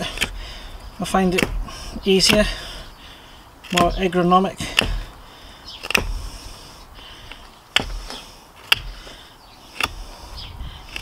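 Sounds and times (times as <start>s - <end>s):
knife cutting wood: 0.0s - 11.0s.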